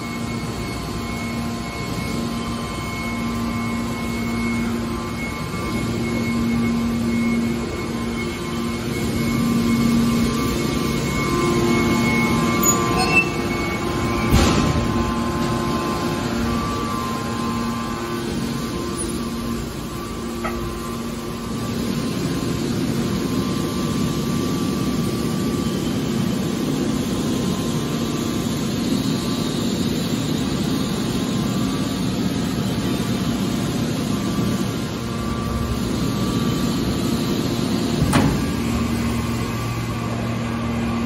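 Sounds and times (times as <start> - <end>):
hydraulic unit humming and whining: 0.0 - 41.0.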